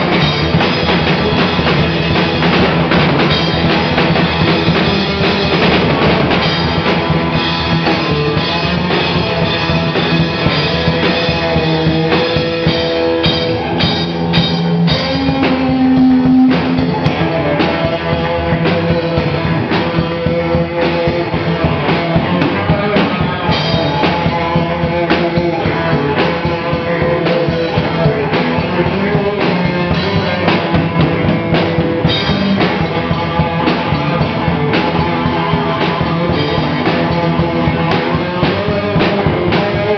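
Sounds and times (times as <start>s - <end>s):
drum kit beat: 0.0s - 39.9s
electric bass: 0.0s - 39.9s
electric guitar: 0.0s - 39.9s.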